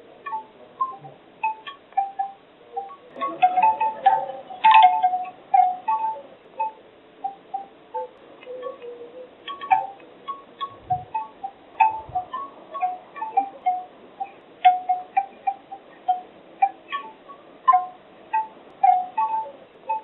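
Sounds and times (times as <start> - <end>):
bamboo wind chimes knocking: 0.2 - 20.0.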